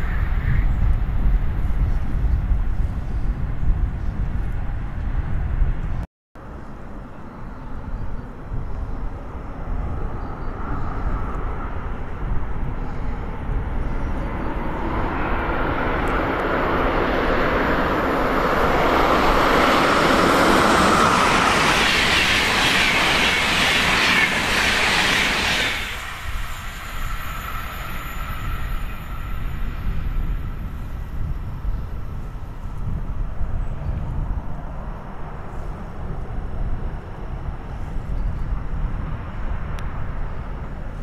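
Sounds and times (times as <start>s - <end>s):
train passing on track: 0.0s - 41.0s.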